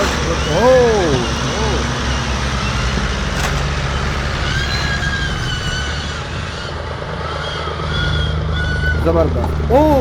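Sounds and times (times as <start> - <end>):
tractor engines running under load: 0.0 - 10.0.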